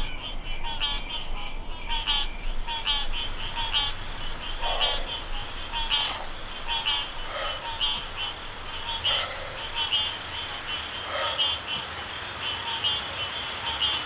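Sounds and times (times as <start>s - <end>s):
pulsed animal-like calls: 0.0s - 11.7s.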